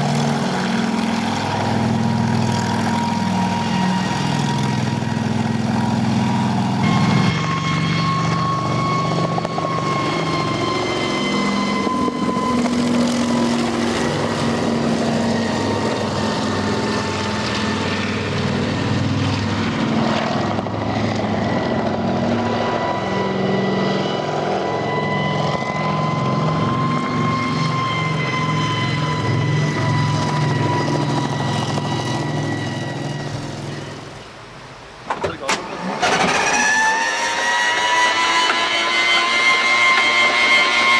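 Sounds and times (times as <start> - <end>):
helicopter engines running: 0.0 - 34.4, 35.1 - 40.9.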